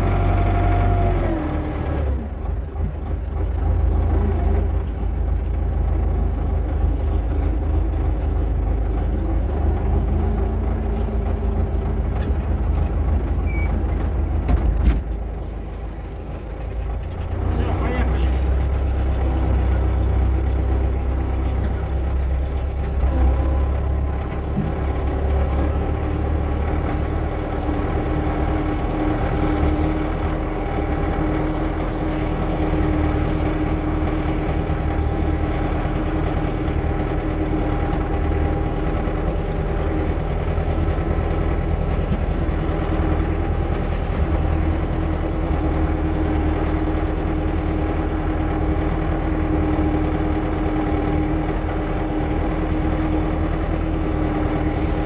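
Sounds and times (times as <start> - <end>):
motor humming steadily: 0.0 - 55.0.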